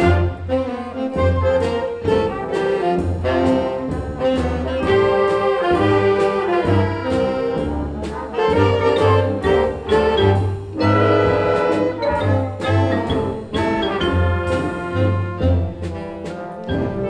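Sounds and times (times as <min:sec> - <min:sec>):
concert band playing: 0:00.0 - 0:17.0.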